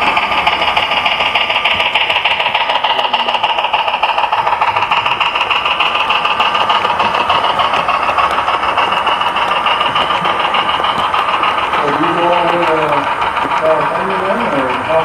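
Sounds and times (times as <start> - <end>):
model train whirring rattle: 0.0 - 15.0.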